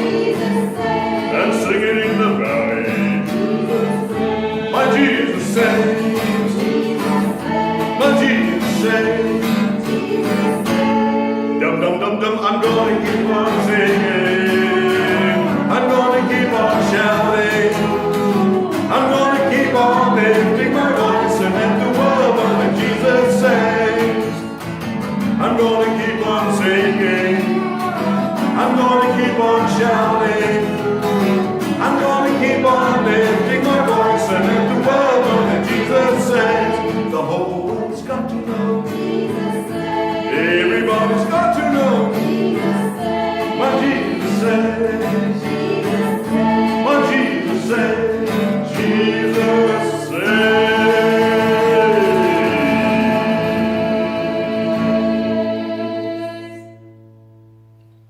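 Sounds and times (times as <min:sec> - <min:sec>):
choir singing: 0:00.0 - 0:56.9
guitar: 0:00.0 - 0:58.0.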